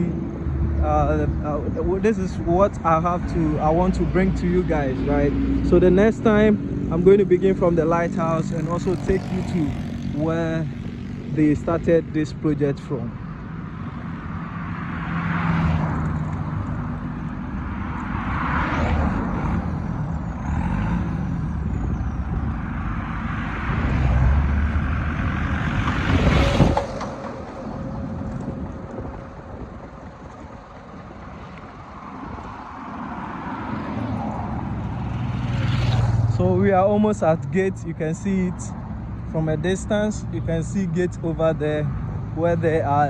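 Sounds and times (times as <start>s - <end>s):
traffic passing: 0.0s - 43.0s.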